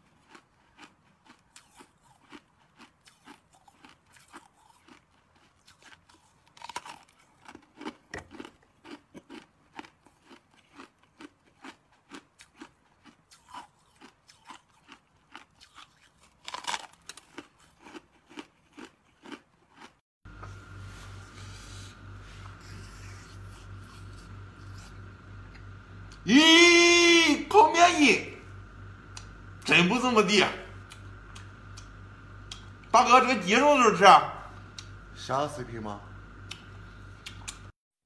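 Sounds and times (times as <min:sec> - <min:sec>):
crunching and chewing hard food: 0:00.0 - 0:26.3, 0:27.4 - 0:37.7.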